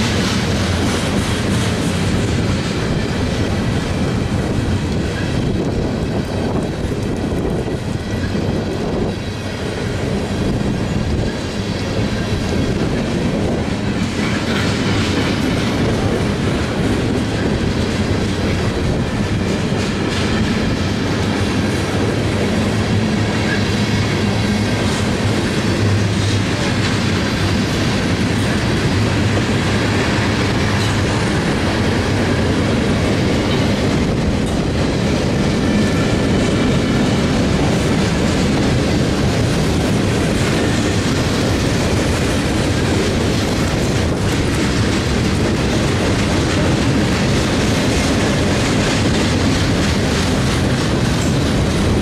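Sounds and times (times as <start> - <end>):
freight train rumble: 0.0 - 52.0.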